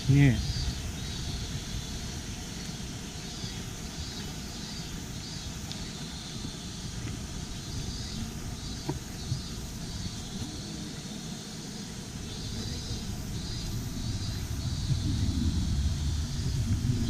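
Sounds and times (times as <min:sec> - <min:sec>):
mountain stream water flowing: 0:00.0 - 0:17.0.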